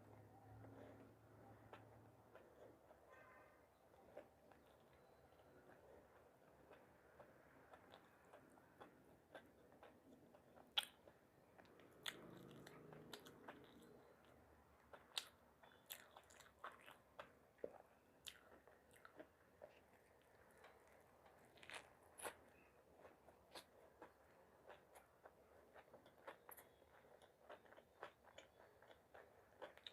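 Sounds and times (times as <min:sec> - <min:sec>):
chewing: 0:00.1 - 0:29.9.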